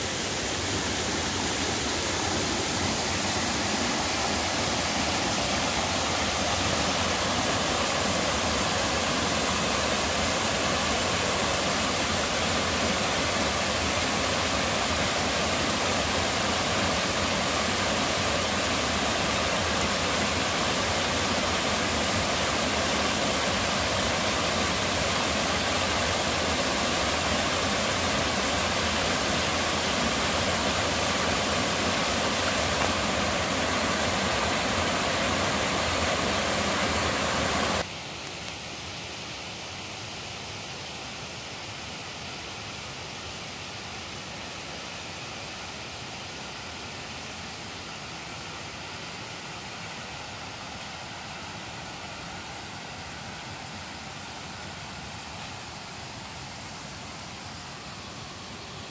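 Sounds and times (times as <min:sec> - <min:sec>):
waterfall and stream rushing: 0:00.0 - 0:58.9.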